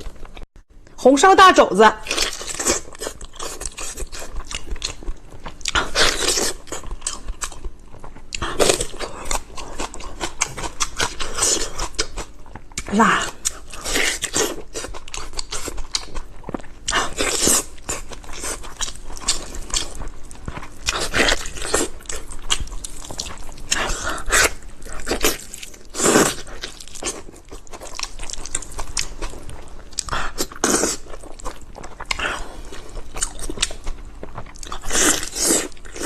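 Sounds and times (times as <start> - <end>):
person chewing: 2.0 - 36.0.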